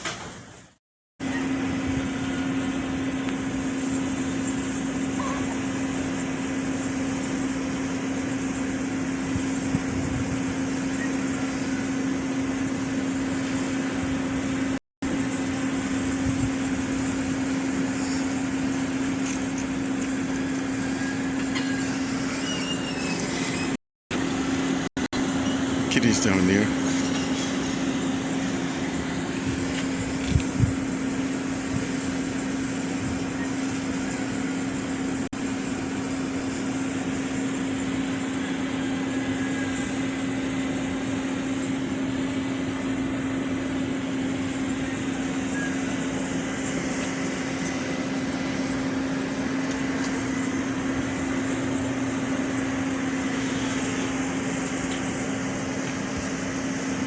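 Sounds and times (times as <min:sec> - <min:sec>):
machine humming: 0:01.2 - 0:57.0.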